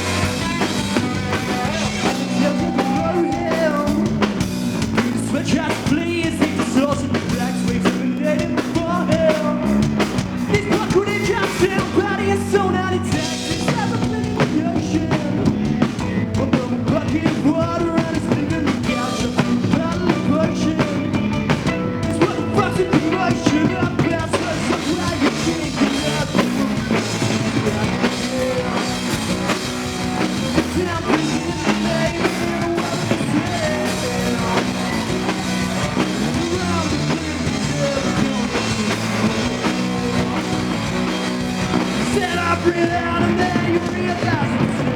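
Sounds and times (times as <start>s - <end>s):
drum kit: 0.0s - 44.9s
guitar: 0.0s - 44.9s
person singing: 0.0s - 44.9s.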